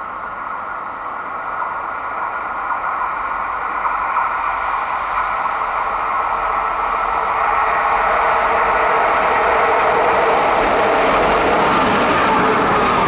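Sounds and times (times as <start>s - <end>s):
high squeal from train wheels: 0.0s - 13.0s
train wheels rumbling on rail: 0.0s - 13.0s.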